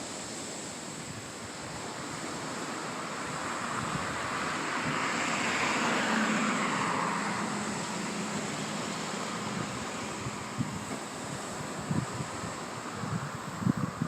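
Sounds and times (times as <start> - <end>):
vehicle passing by: 2.3 - 13.8.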